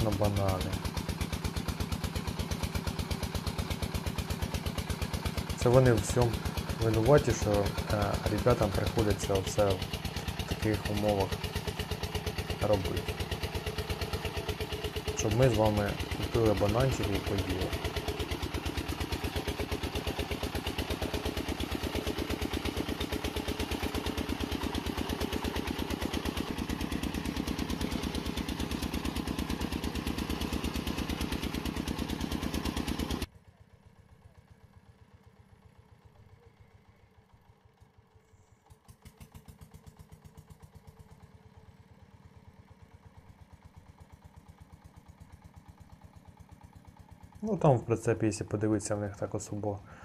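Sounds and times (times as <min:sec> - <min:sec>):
diesel engine chugging loudly: 0:00.0 - 0:50.0
faint engine chugging: 0:00.0 - 0:50.0.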